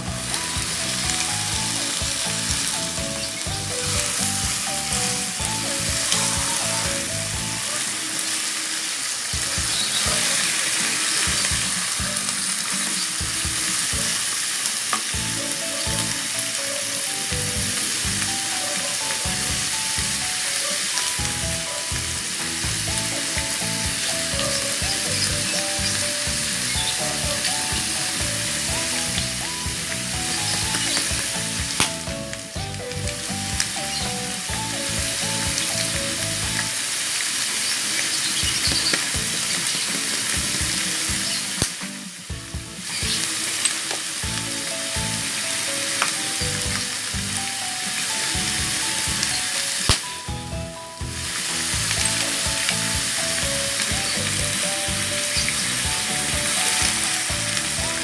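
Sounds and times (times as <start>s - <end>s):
melody with a light beat: 0.0s - 8.6s, 9.3s - 14.4s, 15.0s - 37.0s, 40.4s - 58.0s
pork sizzling in a wok: 0.0s - 58.0s.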